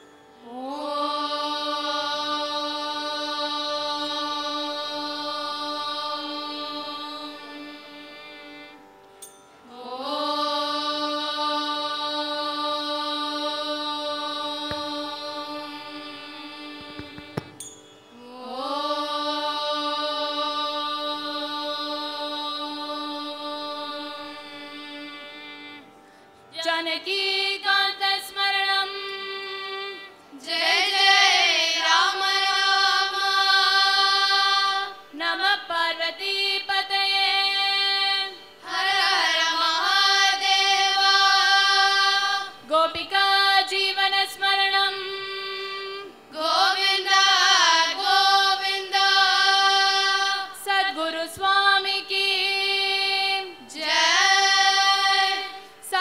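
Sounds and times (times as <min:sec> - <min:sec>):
children singing devotional song: 0:00.0 - 0:08.8, 0:09.6 - 0:25.8, 0:26.6 - 0:56.0.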